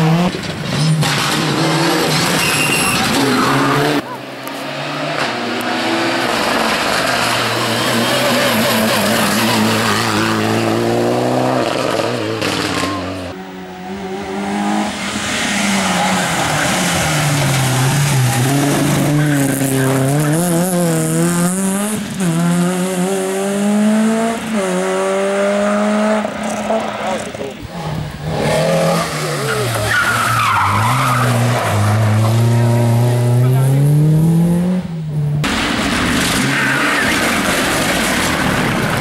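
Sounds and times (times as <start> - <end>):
rally car engine accelerating: 0.0 - 39.0.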